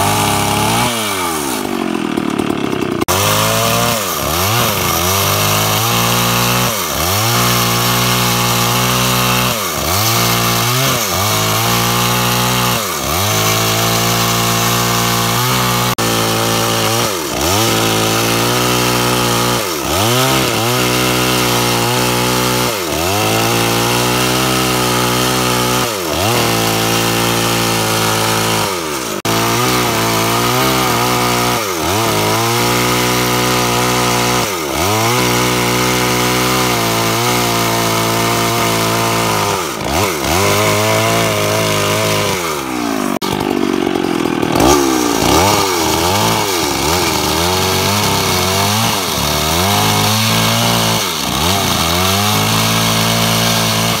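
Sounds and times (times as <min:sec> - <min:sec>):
chainsaw sawing wood: 0:00.0 - 0:54.0.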